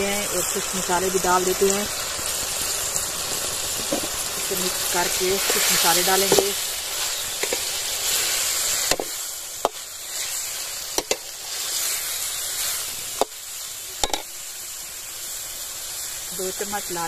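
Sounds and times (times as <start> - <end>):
chicken sizzling in pot: 0.0 - 17.0.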